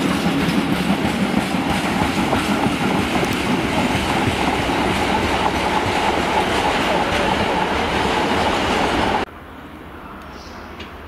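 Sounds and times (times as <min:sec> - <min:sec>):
train wheels clattering on rails: 0:00.0 - 0:09.3.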